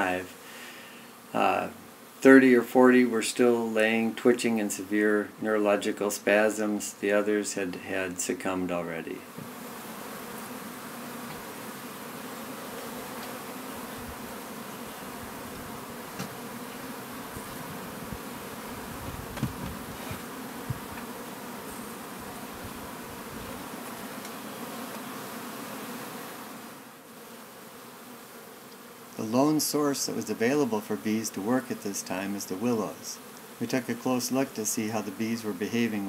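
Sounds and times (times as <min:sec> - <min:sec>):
honey bees buzzing: 0:00.0 - 0:36.0.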